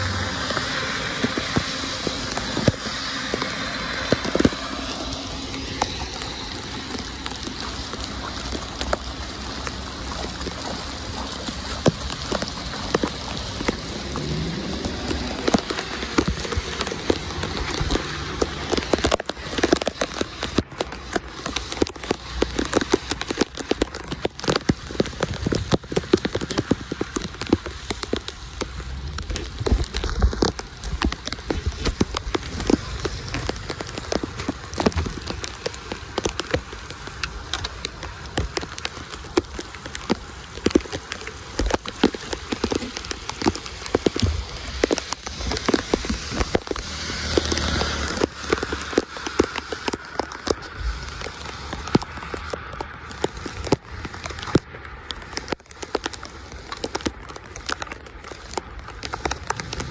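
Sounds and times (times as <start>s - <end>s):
heavy rain on street: 0.0s - 59.9s
water rushing into drain: 0.0s - 59.9s.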